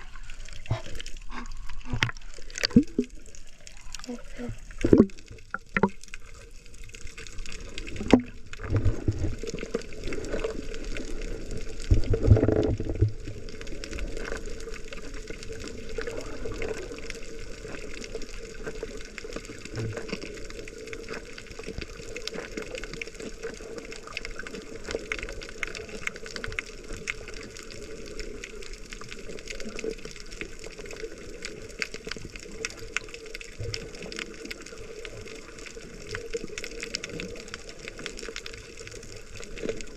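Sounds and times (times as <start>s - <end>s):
fine crackle of small clicks: 0.0s - 39.9s
water sloshing and bubbling: 0.0s - 39.9s.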